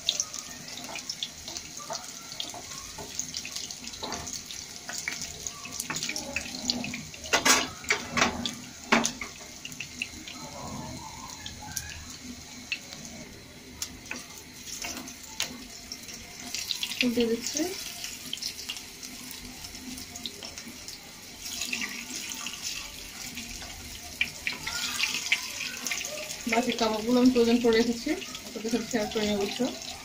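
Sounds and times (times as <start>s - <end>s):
oil popping and crackling: 0.0s - 10.4s, 11.0s - 30.0s
meat sizzling in hot oil: 0.0s - 30.0s.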